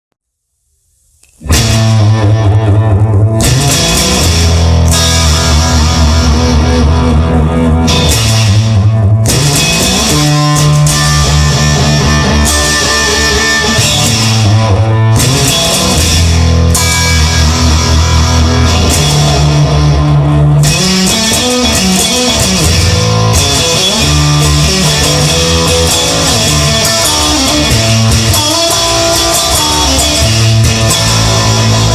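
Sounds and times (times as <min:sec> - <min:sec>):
electric guitar: 0:01.1 - 0:31.9
bass guitar: 0:01.2 - 0:31.9
drums: 0:01.2 - 0:31.9.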